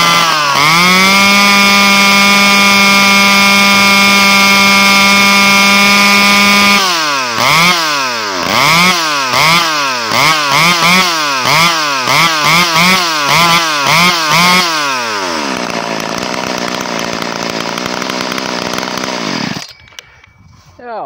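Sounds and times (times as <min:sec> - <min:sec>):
chainsaw engine revving: 0:00.0 - 0:20.2.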